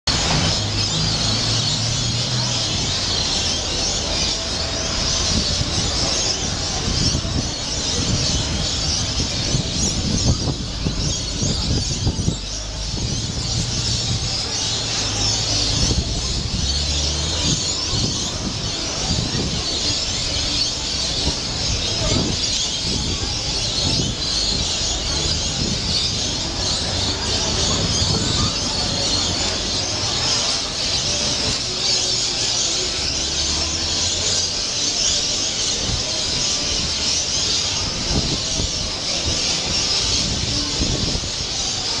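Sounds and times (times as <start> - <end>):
flock of parrots calling: 0.1 - 42.0.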